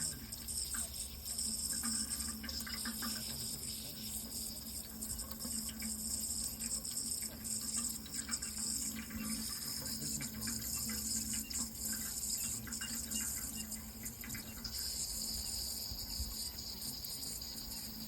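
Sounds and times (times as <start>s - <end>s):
crickets trilling: 0.0s - 18.0s
water trickling and splashing: 0.0s - 18.0s.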